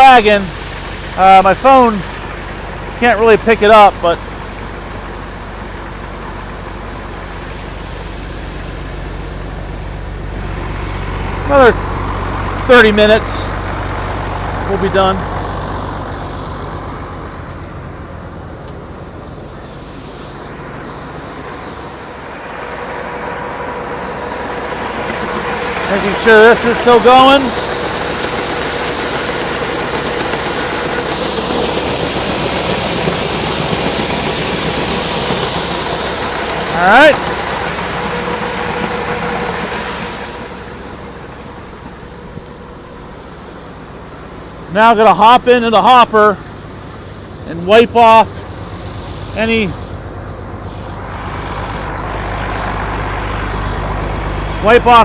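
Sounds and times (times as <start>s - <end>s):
grain auger rushing: 0.0s - 55.0s
low engine hum: 0.0s - 55.0s
steady whine: 0.0s - 55.0s.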